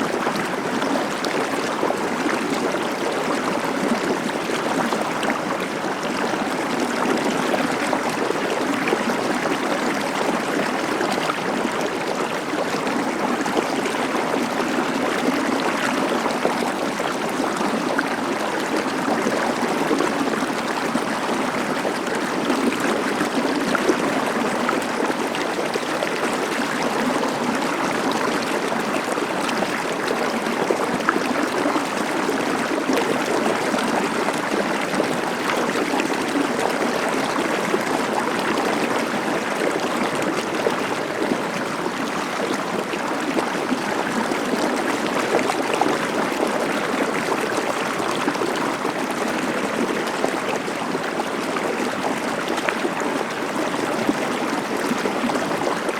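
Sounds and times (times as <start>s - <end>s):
stream of water flowing: 0.0s - 55.9s.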